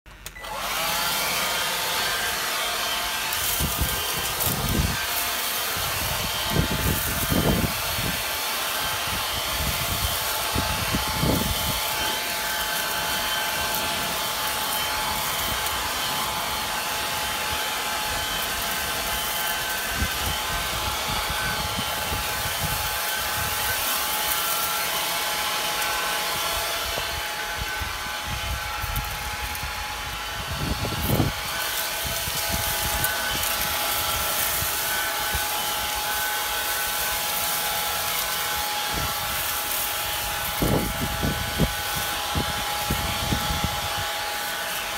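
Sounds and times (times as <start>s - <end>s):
leaf blower running: 0.1s - 44.9s.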